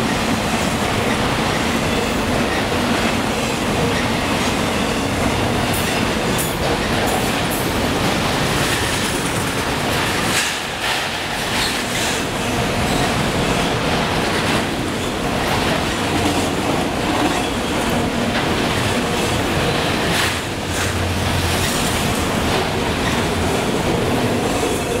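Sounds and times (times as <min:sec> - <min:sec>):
steel wheels rumbling on rails: 0:00.0 - 0:25.0
wheels clacking over rail joints: 0:01.0 - 0:25.0.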